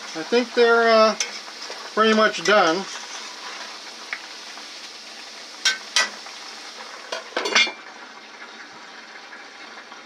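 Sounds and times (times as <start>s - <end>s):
potatoes deep-frying in oil: 0.0s - 10.0s.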